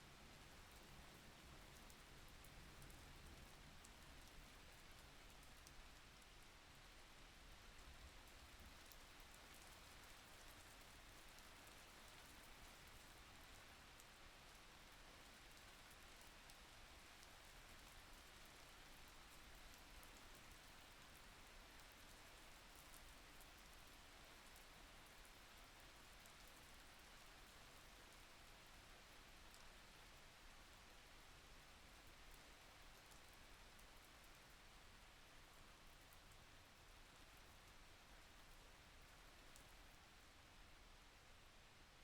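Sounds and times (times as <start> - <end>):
faint steady rain: 0.0 - 42.0.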